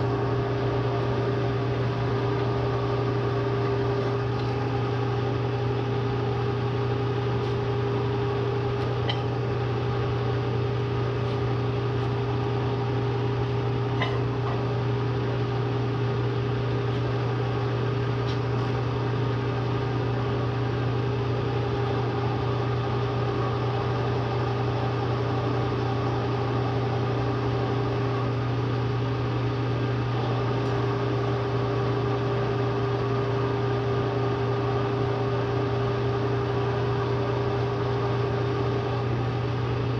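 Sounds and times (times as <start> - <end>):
electrical hum of motor running: 0.0 - 39.9.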